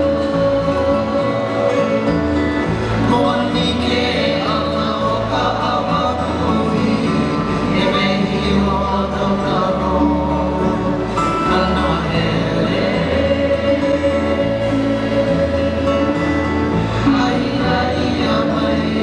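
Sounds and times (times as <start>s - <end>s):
bass line: 0.0s - 19.0s
choir singing: 0.0s - 19.0s.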